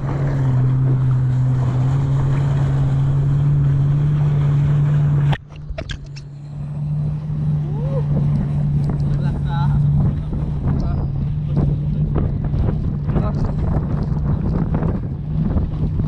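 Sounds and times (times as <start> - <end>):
jet ski engine running: 0.0 - 16.0
water and wind rushing: 0.0 - 16.0.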